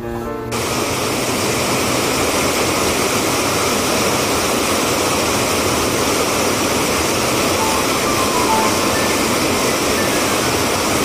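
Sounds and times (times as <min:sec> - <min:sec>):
stream rushing over rapids: 0:00.6 - 0:11.0.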